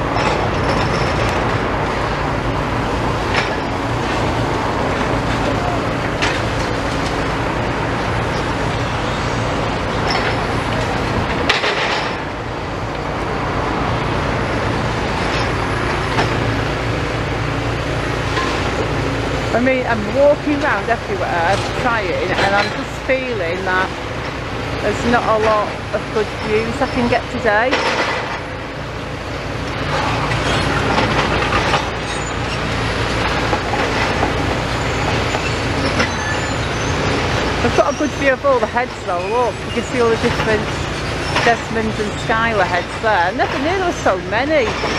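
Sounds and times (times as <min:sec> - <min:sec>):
demolition machinery working: 0:00.0 - 0:44.9
traffic engine rumble: 0:00.0 - 0:44.9.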